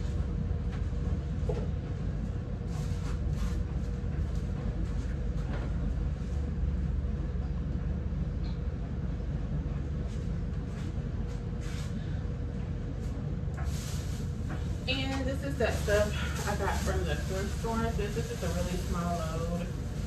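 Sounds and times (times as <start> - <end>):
faint constant whine: 0.0 - 20.0
laundry machine humming: 0.0 - 20.0.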